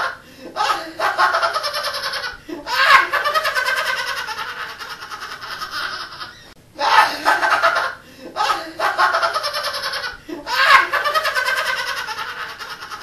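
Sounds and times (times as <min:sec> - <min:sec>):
high-pitched pulsing creature laugh: 0:00.0 - 0:13.0.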